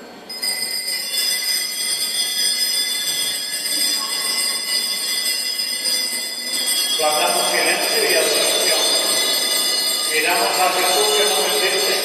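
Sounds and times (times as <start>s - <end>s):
bells ringing: 0.1s - 12.0s.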